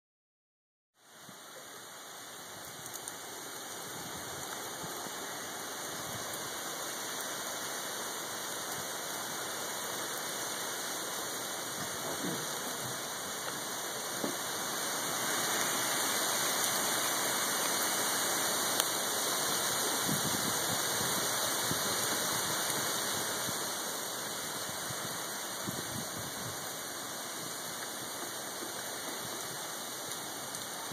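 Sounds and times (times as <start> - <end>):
heavy rain falling: 1.0 - 30.9.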